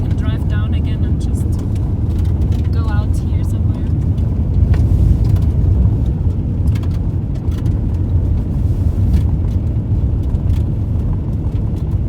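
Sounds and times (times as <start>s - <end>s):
car engine and road rumble: 0.0s - 12.0s
light clicks and rattles: 0.0s - 12.0s.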